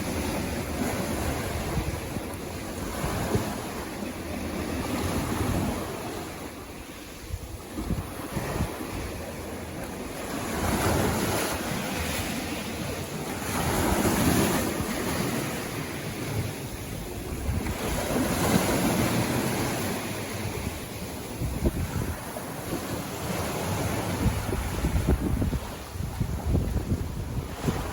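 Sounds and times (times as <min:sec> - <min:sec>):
sea waves breaking on shore: 0:00.0 - 0:27.9.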